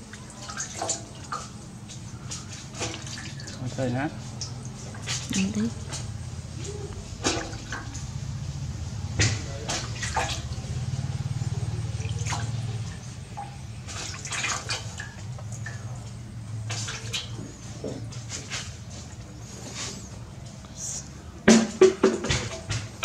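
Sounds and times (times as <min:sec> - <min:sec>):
water splashing in metal basin: 0:00.0 - 0:19.2
steady low hum: 0:00.0 - 0:23.0.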